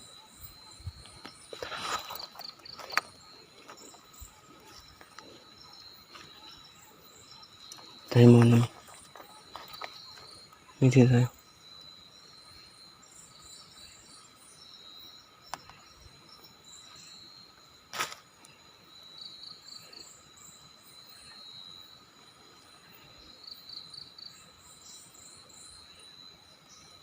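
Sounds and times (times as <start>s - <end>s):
crickets trilling: 0.0s - 27.0s
pulsing insect chirps: 0.0s - 27.0s.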